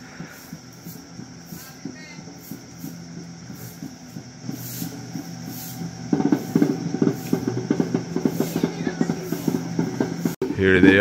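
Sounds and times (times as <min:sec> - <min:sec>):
fast drum strokes: 0:00.0 - 0:11.0.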